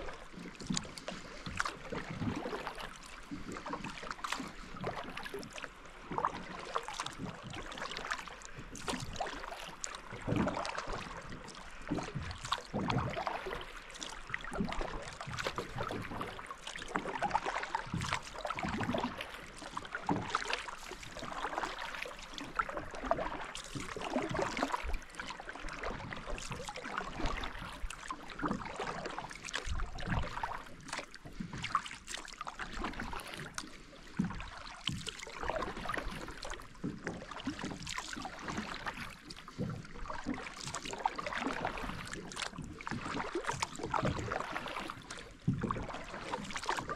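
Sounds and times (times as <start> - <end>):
paddle splashing in water: 0.0 - 46.9.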